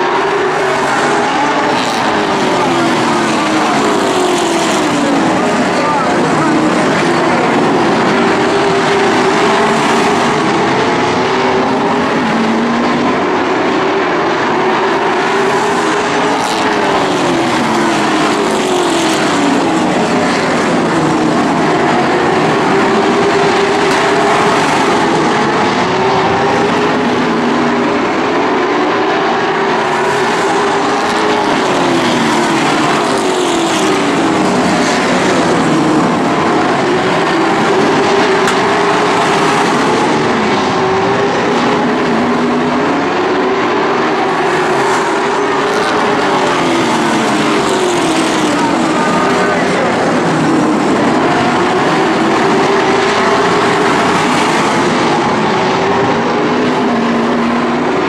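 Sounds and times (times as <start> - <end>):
stock car engines racing: 0.0 - 58.0.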